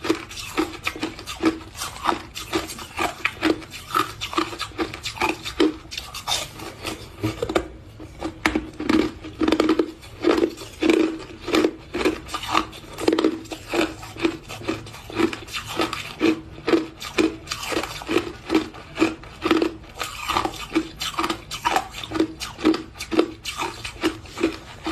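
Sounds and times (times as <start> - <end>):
person chewing crushed ice: 0.0 - 24.9.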